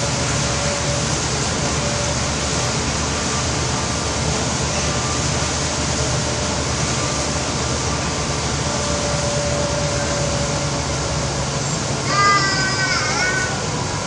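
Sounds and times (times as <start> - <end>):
bus engine drone with hiss: 0.0 - 14.0.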